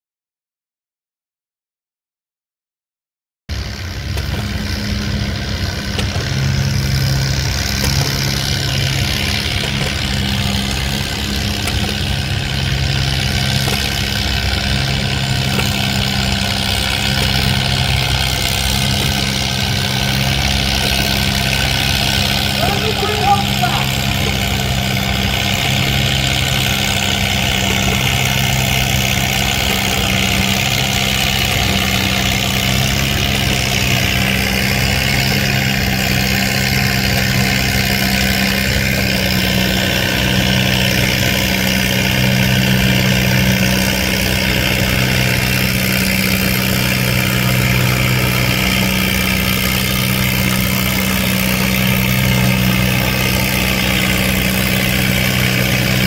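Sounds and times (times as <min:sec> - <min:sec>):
tractor engine running: 0:03.5 - 0:56.0.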